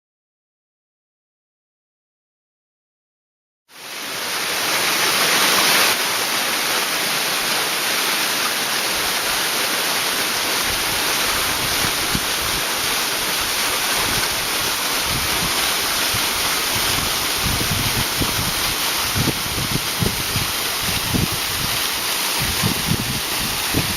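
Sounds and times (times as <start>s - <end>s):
waterfall rushing: 3.7s - 23.9s.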